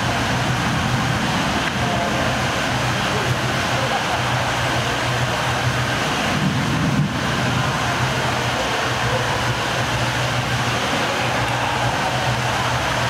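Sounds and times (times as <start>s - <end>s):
low hum: 0.0s - 13.0s
rushing background noise: 0.0s - 13.0s.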